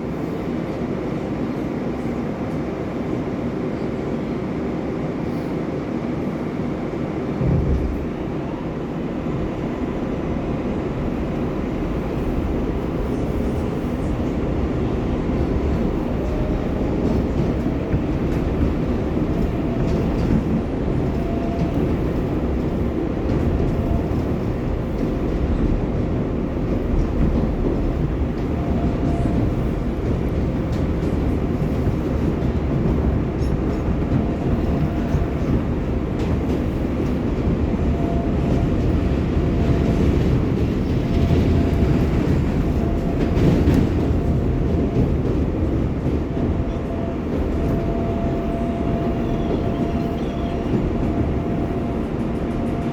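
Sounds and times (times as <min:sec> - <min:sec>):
subway train wheels rumbling on rail: 0:00.0 - 0:52.9.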